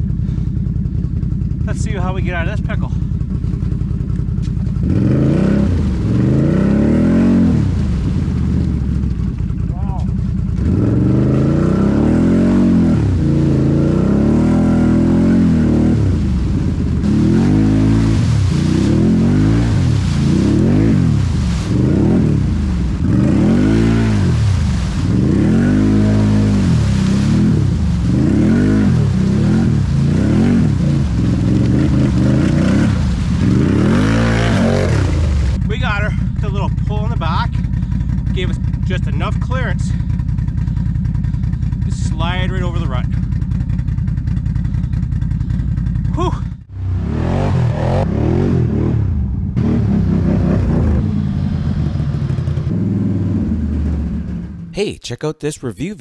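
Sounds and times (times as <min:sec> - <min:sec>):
atv engine idling and revving: 0:00.0 - 0:54.8.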